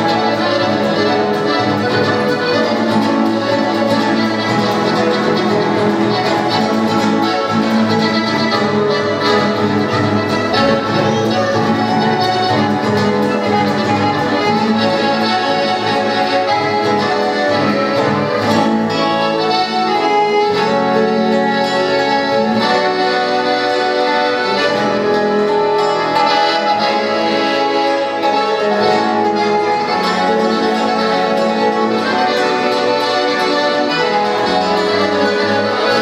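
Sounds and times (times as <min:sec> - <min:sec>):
latin american instrumental trio: 0:00.0 - 0:36.0.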